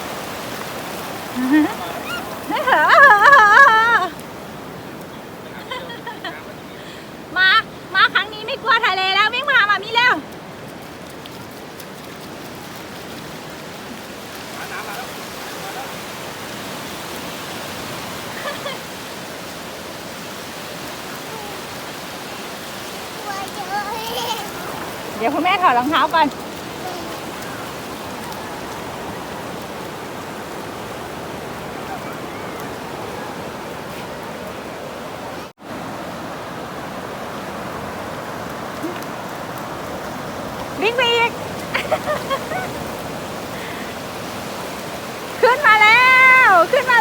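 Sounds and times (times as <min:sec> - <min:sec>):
sea surf washing on beach: 0:00.0 - 0:47.0.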